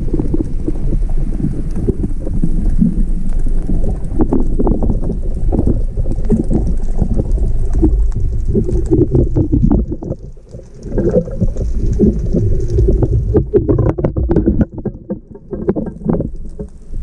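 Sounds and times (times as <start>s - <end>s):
muffled underwater noise: 0.0s - 17.0s.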